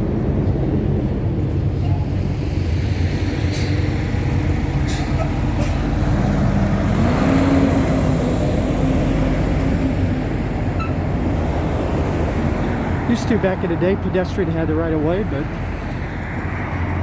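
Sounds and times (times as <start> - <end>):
vehicle engine pulling away: 0.0 - 13.9
low traffic rumble: 0.0 - 17.0.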